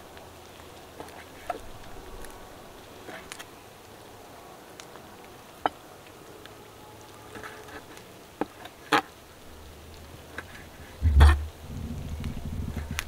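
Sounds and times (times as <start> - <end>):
low steady background: 0.0 - 13.0.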